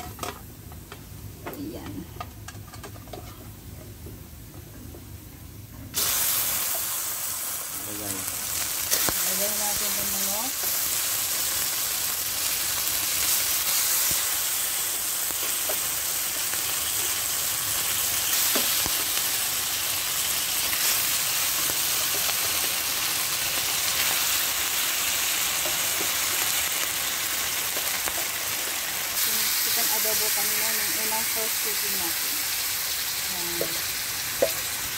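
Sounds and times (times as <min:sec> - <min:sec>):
chicken sizzling in oil: 0:06.0 - 0:34.9.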